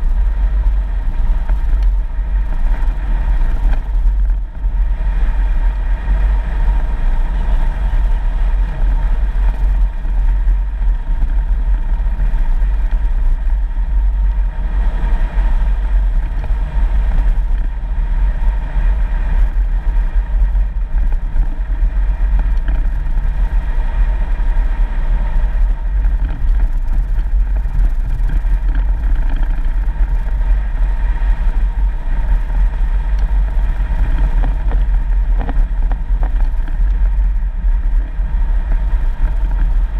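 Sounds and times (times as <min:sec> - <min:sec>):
vehicle on dirt road rumble: 0:00.0 - 0:39.9.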